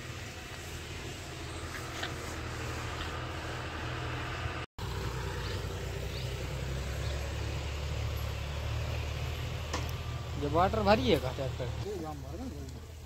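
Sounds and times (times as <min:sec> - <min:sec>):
diesel engine running at low revs: 0:00.0 - 0:13.0.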